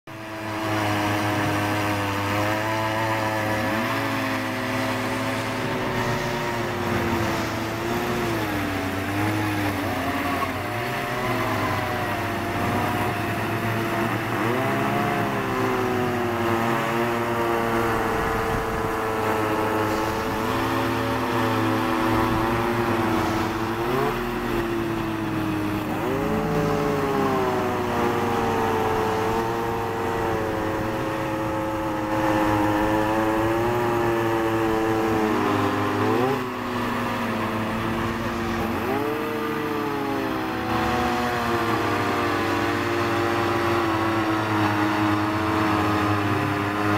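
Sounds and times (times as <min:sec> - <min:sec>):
ice auger engine drilling: 0:00.1 - 0:46.9.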